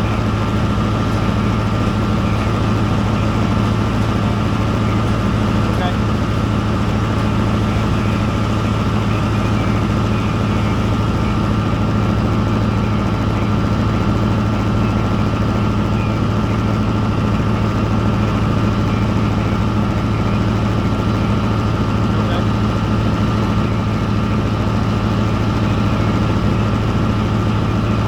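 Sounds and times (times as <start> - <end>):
heavy engine droning: 0.0 - 28.0
steady high whine: 0.0 - 28.0.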